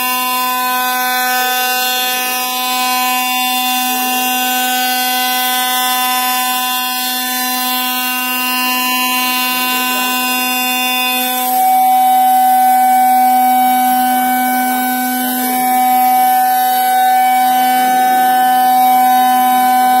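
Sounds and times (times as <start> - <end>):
milling machine spindle whine: 0.0 - 20.0.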